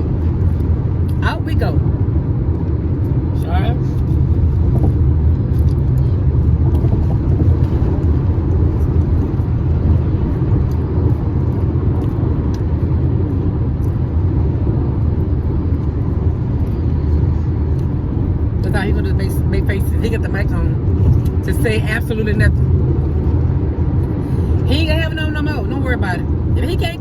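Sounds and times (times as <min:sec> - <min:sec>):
air conditioning running: 0:00.0 - 0:27.0
tyre and road noise: 0:00.0 - 0:27.0.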